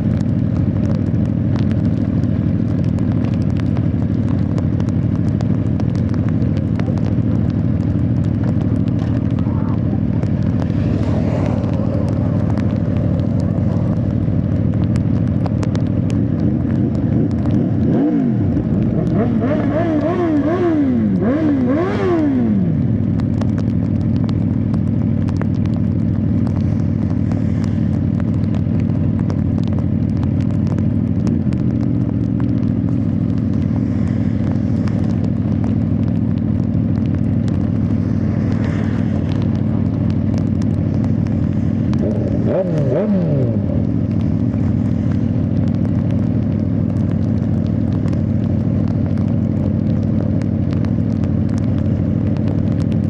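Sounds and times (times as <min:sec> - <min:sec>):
motorcycle engine accelerating: 0:00.0 - 0:53.0
wind and road noise: 0:00.0 - 0:53.0.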